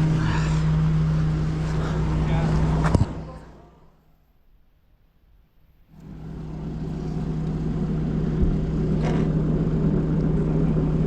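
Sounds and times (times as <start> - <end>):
truck diesel engine and hydraulics hum: 0.0 - 4.0, 5.9 - 11.0.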